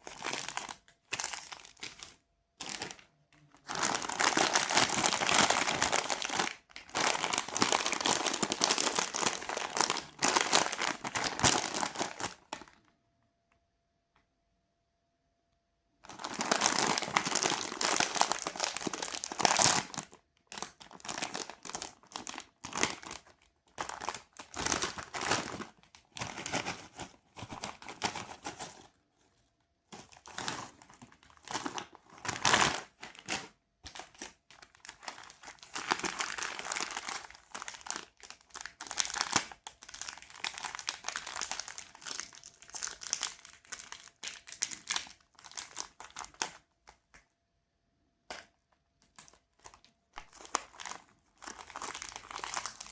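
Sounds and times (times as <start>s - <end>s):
plastic wrappers crinkling: 0.0s - 12.9s, 16.0s - 47.2s, 49.0s - 52.9s.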